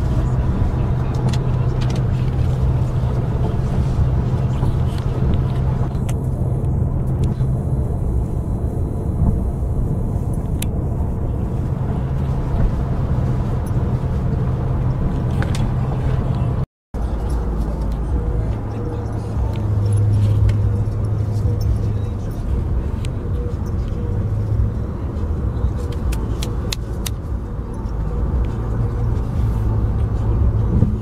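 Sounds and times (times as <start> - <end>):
car driving heard from cabin: 0.0 - 31.0.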